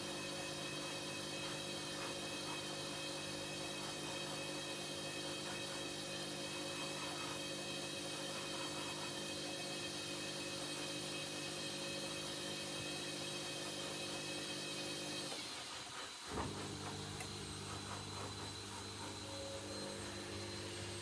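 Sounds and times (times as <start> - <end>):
washing machine hum: 0.0 - 21.0.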